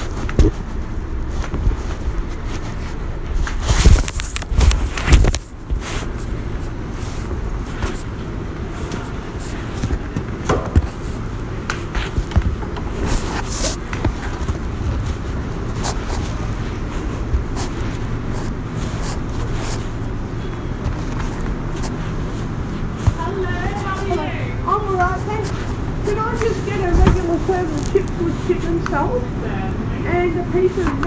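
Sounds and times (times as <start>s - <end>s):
low background rumble: 0.0s - 31.0s.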